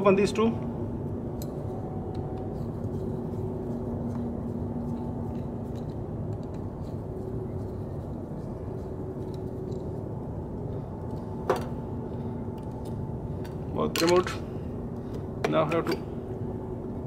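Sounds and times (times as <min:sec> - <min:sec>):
low hum of running machinery: 0:00.0 - 0:17.0.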